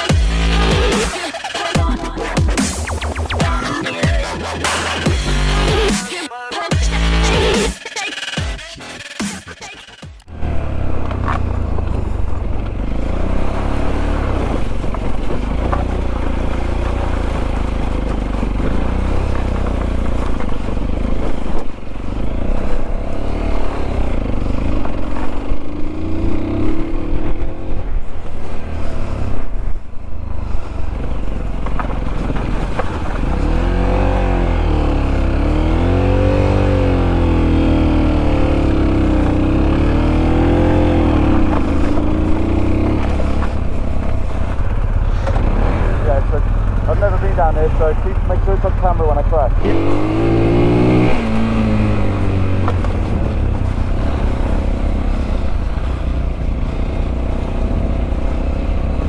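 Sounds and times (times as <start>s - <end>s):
motorcycle engine revving: 10.1s - 59.0s.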